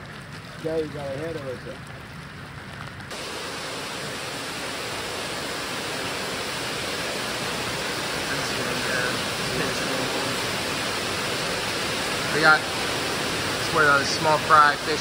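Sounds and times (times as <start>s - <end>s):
water rushing through troughs: 0.0s - 2.0s, 3.1s - 15.0s.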